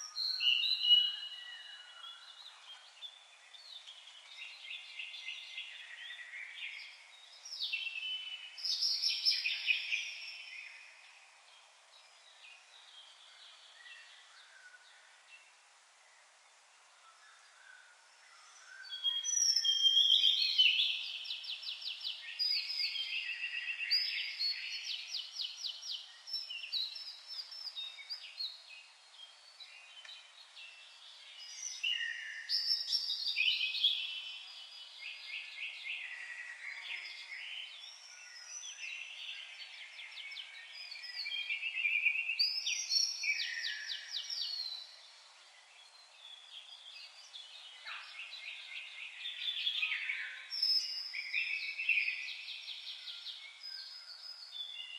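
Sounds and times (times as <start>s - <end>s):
songbird trilling and chirping: 0.0s - 15.0s, 17.3s - 54.9s.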